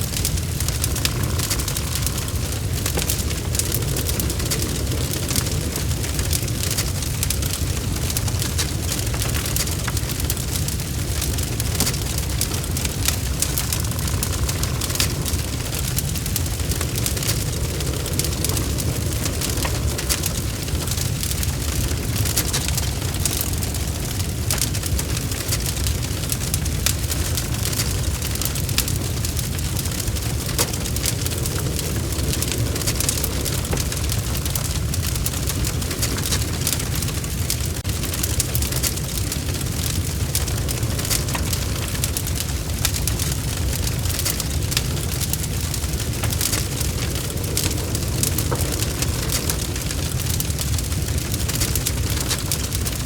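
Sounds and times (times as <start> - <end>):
low rumble: 0.0 - 53.0
wood fire crackling: 0.0 - 53.0.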